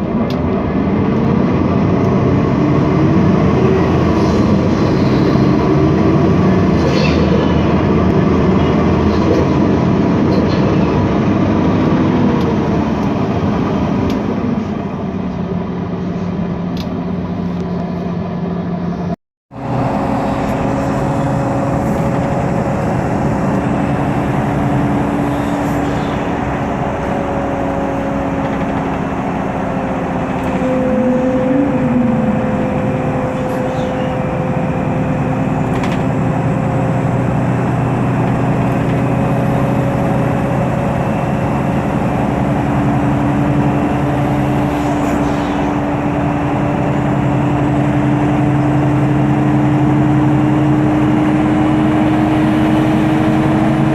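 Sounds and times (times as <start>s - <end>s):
bus engine drone: 0.0s - 53.9s
steady whine: 0.0s - 53.9s.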